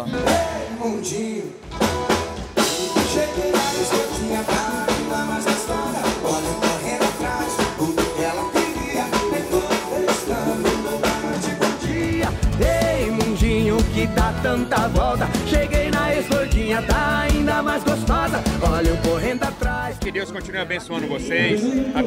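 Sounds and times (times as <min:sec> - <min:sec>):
men singing into microphones: 0:00.0 - 0:01.7, 0:02.6 - 0:20.2
electric guitars and bass: 0:00.0 - 0:20.8
drum kit beat: 0:00.0 - 0:21.1.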